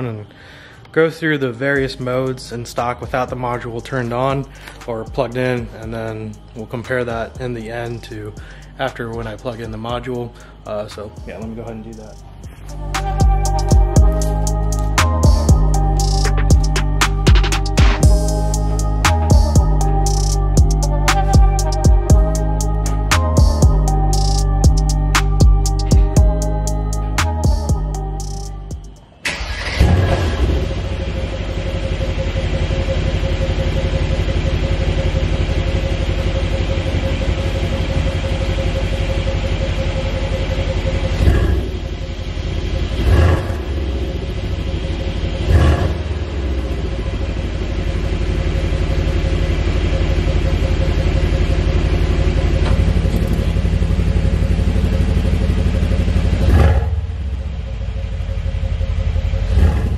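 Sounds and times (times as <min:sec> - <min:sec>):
car engine idling: 0:00.0 - 0:59.9
engine revving blips: 0:04.0 - 0:59.9.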